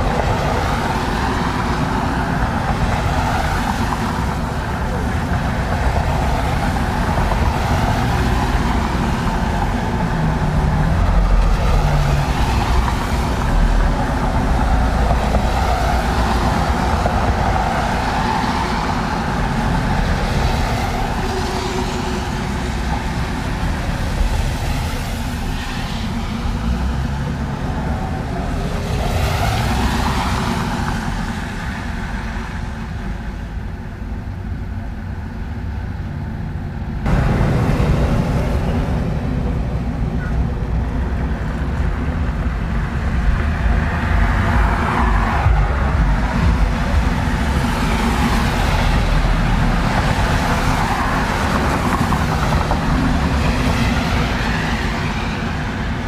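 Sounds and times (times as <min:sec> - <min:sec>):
cars passing with tyre hiss: 0:00.0 - 0:56.0
low traffic rumble: 0:00.0 - 0:56.0.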